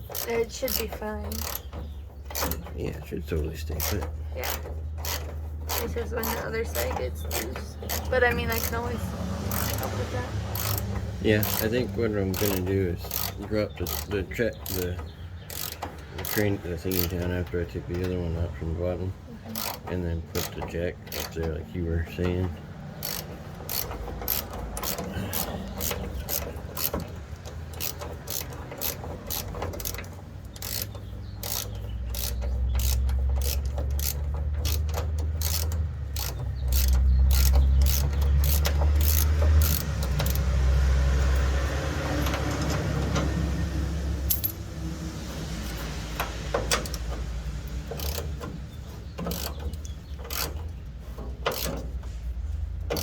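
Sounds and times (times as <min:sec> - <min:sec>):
socket ratchet clicking: 0:00.0 - 0:02.8, 0:03.7 - 0:18.2, 0:19.5 - 0:21.6, 0:22.2 - 0:52.0, 0:52.6 - 0:53.0.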